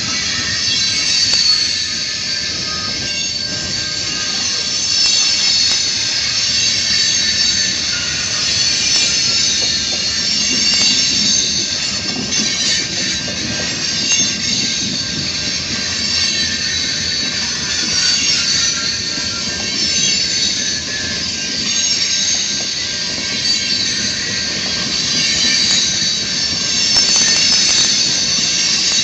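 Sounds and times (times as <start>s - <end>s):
wheels squealing: 0.0s - 29.0s.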